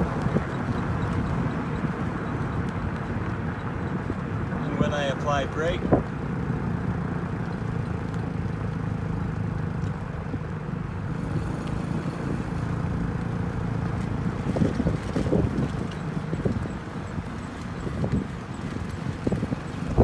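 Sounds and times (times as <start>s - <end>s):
road and engine noise: 0.0s - 20.0s.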